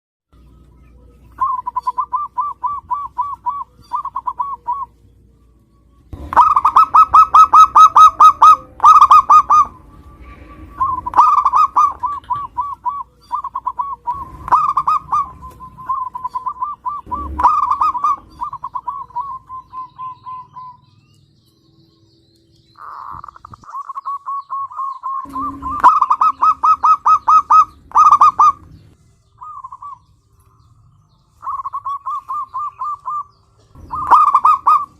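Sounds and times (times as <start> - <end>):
dove cooing: 0.8 - 5.1, 6.1 - 21.0, 22.7 - 30.2, 31.3 - 34.9.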